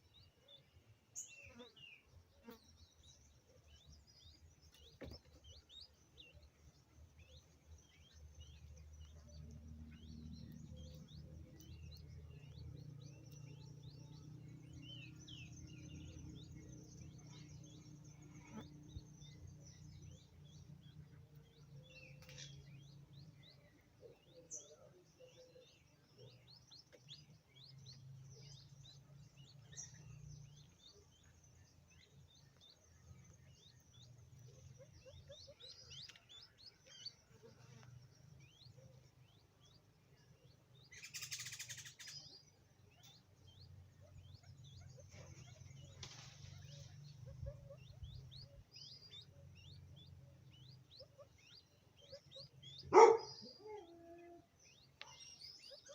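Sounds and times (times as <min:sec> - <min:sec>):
faint bird chirps: 0:00.0 - 0:55.9.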